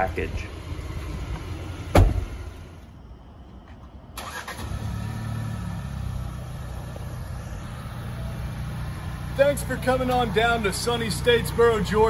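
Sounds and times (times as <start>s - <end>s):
car engine idling: 0.0s - 3.1s, 4.2s - 12.0s.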